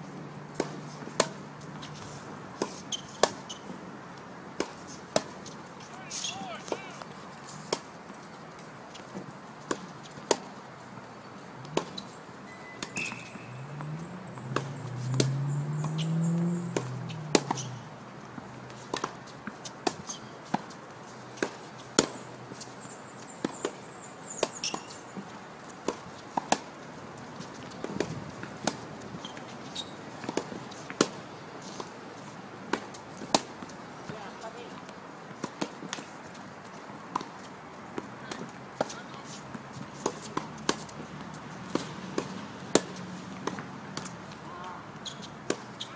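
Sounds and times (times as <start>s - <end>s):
tennis balls struck and bouncing: 0.5s - 22.8s, 23.4s - 45.9s.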